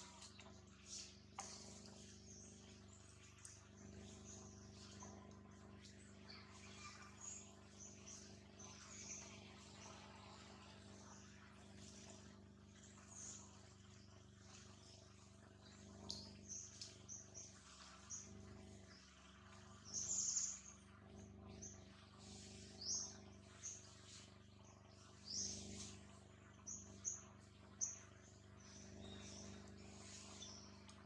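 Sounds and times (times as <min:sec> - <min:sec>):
birds chirping: 0:00.0 - 0:31.0
faint background hum: 0:00.0 - 0:31.0.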